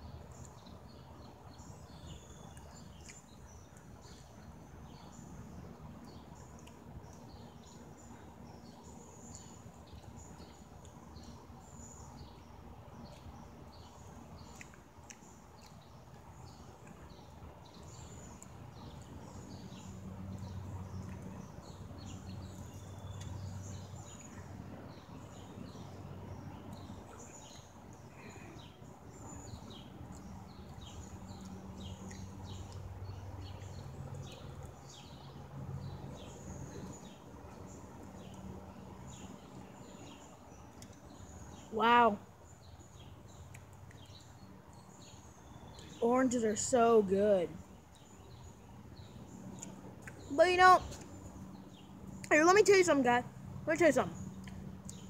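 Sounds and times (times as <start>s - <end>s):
birds chirping: 0.0s - 55.0s
outdoor background noise: 0.0s - 55.0s.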